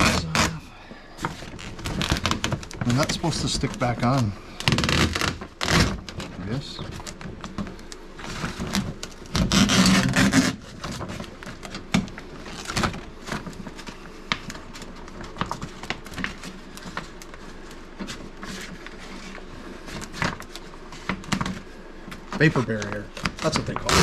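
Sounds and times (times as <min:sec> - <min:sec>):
plastic sheet rustling and crinkling: 0:00.0 - 0:24.0
crackles and clicks: 0:01.2 - 0:24.0.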